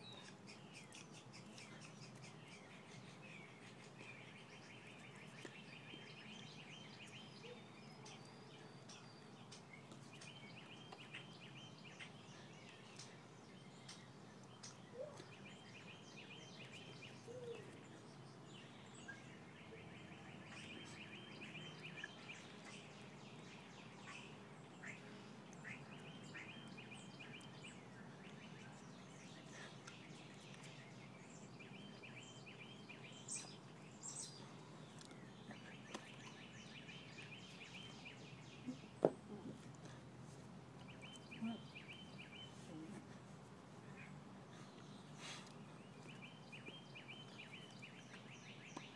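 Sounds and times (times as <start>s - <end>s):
faint trilled bird song: 0.0s - 48.9s
steady background noise: 0.0s - 48.9s.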